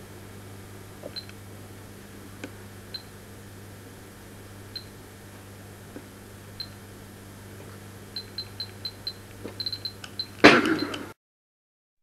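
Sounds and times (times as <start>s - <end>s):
low electrical hum: 0.0s - 11.2s.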